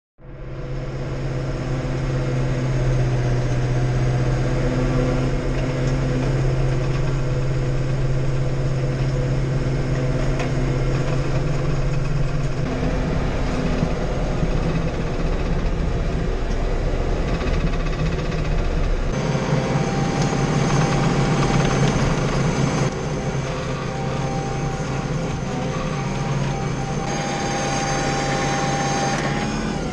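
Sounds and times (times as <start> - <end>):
tractor diesel engine running: 0.2 - 29.9.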